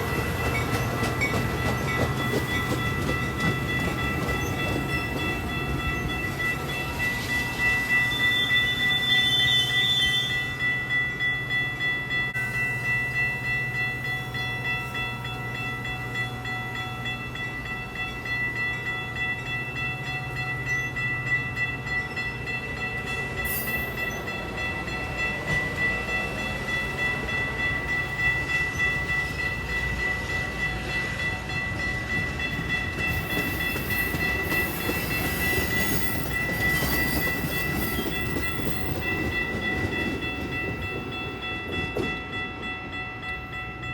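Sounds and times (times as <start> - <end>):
train rumbling on tracks: 0.0 - 43.9.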